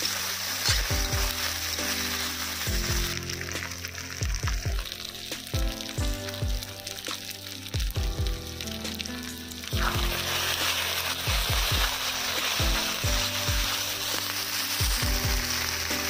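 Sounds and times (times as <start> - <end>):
background music with deep beat: 0.0 - 16.0
food sizzling in oil: 0.0 - 16.0.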